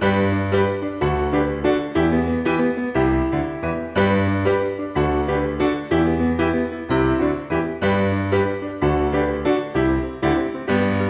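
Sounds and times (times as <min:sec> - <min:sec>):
keyboard background music: 0:00.0 - 0:11.0.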